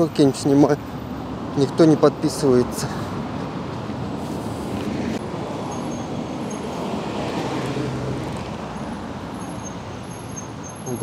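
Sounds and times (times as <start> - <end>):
passing cars rushing: 0.0 - 11.0.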